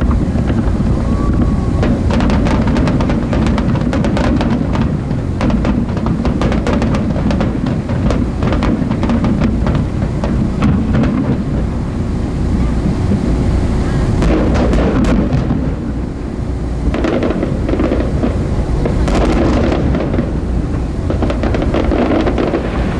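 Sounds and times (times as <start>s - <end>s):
boat noise: 0.0s - 22.9s
fireworks crackling and popping: 0.0s - 22.9s
low rumble of booms: 0.0s - 22.9s
wind: 0.0s - 22.9s.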